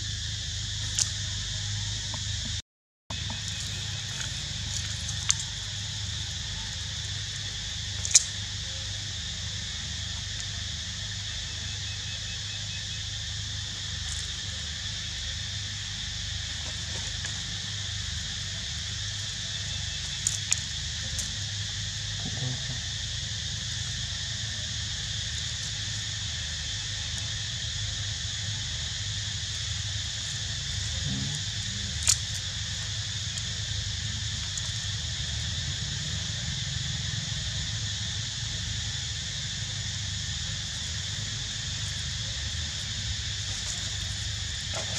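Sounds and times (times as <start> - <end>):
insect chorus: 0.0 - 44.9.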